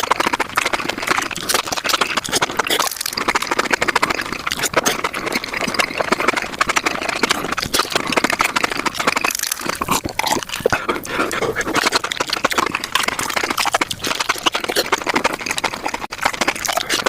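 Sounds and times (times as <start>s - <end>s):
sped-up chewing sounds: 0.0s - 17.0s.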